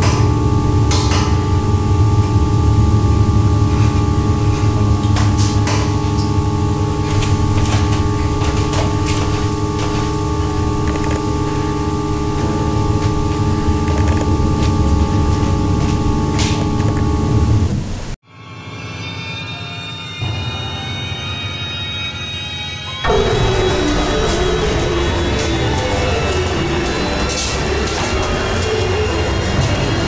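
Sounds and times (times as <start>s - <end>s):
ringing tones: 0.0s - 17.7s, 23.0s - 30.0s
deep low hum: 0.0s - 18.2s, 23.1s - 30.0s.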